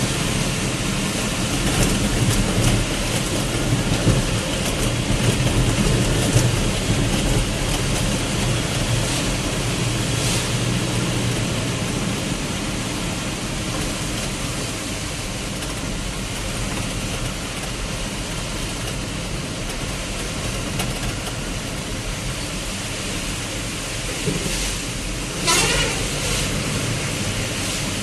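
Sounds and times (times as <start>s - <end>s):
heavy rain rushing: 0.0s - 28.0s
low engine hum: 0.0s - 28.0s
road noise: 0.0s - 28.0s.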